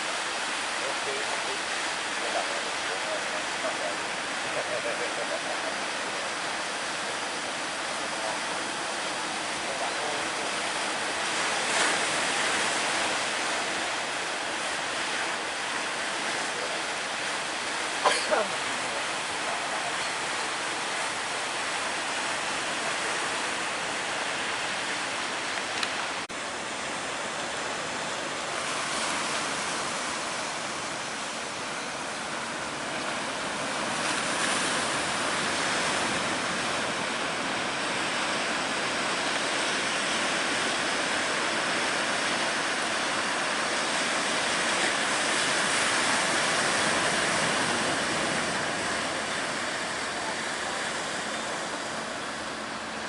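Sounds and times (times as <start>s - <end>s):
sea waves breaking: 0.0s - 53.0s.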